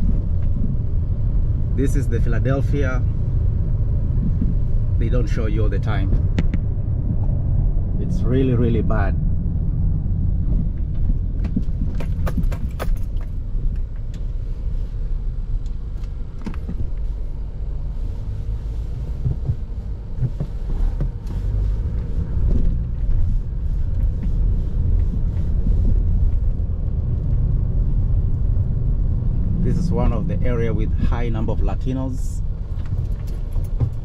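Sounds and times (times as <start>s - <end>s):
car engine rumble: 0.0s - 34.0s
road noise: 0.0s - 34.0s.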